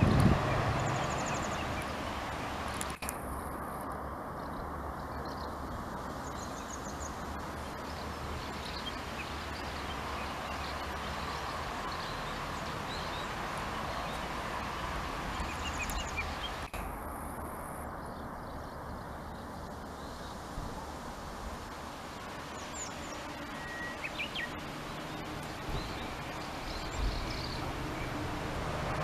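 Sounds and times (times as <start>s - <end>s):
small birds chirping: 0.0s - 29.0s
steady background hiss: 0.3s - 29.0s.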